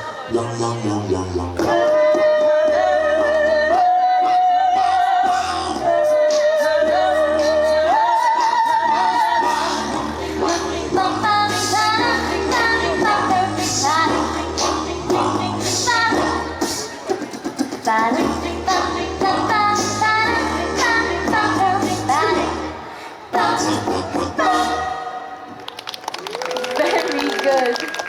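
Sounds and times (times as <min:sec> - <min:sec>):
woman singing lead with vibrato: 0:00.0 - 0:17.1, 0:17.7 - 0:25.5.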